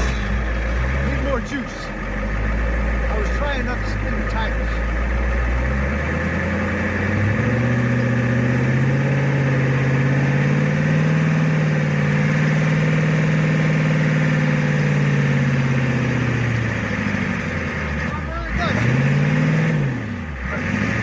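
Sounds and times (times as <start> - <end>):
pickup truck engine revving: 0.0 - 21.0.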